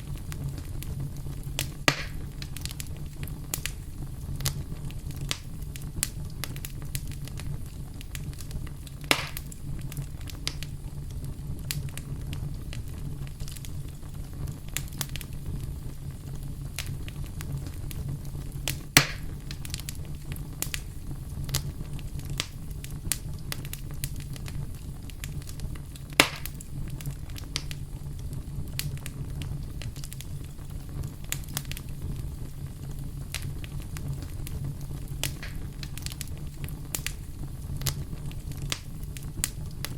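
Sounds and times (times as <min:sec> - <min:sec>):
campfire flame rumble: 0:00.0 - 0:39.9
fire crackling and popping: 0:00.0 - 0:39.9.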